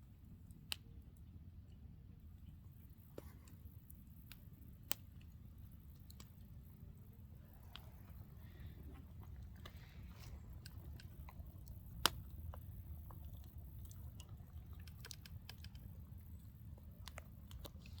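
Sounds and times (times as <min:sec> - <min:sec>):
campfire crackling: 0:02.2 - 0:18.0.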